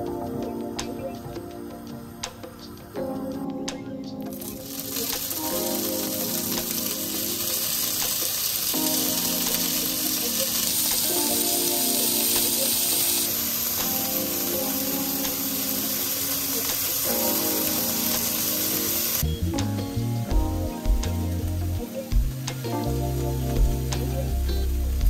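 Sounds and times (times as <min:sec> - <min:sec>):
background music: 0:00.0 - 0:25.0
shrimp sizzling in grill pan: 0:04.3 - 0:25.0.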